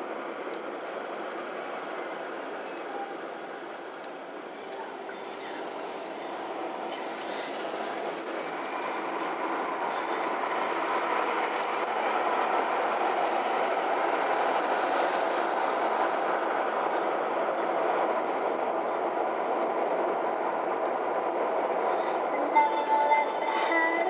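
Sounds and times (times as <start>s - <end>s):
road and tyre noise in car: 0.0s - 24.0s.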